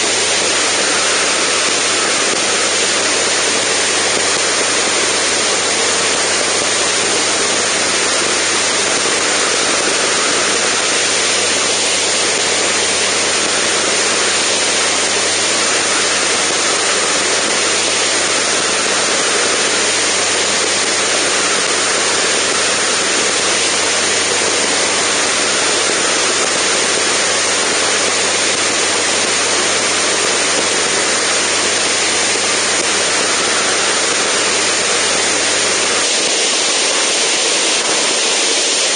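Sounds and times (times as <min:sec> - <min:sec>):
aircraft engine low hum: 0:00.0 - 0:38.9
wind rushing over microphone: 0:00.0 - 0:38.9.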